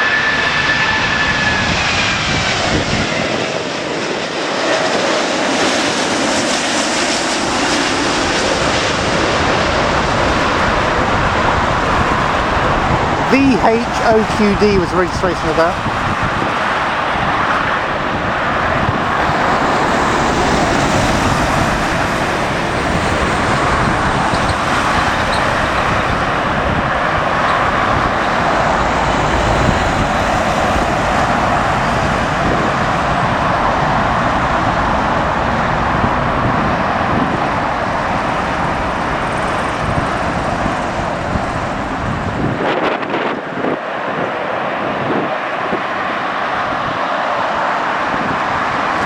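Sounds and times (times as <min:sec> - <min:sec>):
wind buffeting microphone: 0:00.0 - 0:04.2, 0:07.1 - 0:49.0
jet engines rushing: 0:00.0 - 0:49.0.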